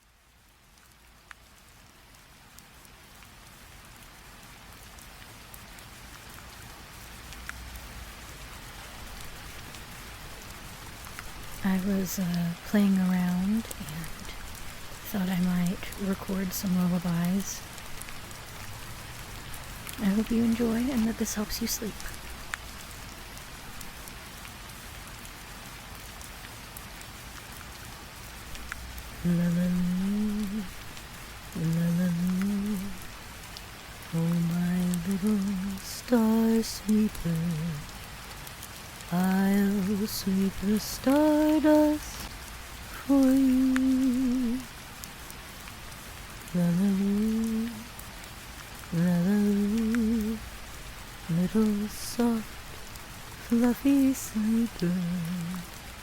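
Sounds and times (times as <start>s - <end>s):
rain hissing: 0.0s - 56.0s
raindrop ticks: 0.1s - 56.0s.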